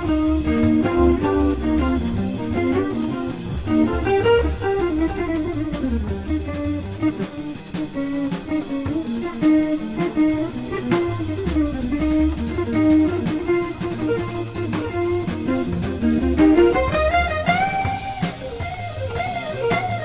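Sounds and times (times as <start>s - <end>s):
double bass walking line: 0.0s - 20.0s
jazz guitar melody: 0.0s - 20.0s.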